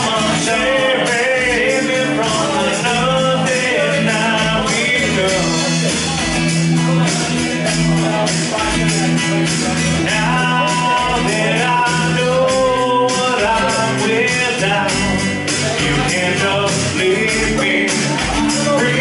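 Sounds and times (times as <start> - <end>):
acoustic guitar strumming: 0.0 - 19.0
man singing into a microphone: 0.0 - 19.0.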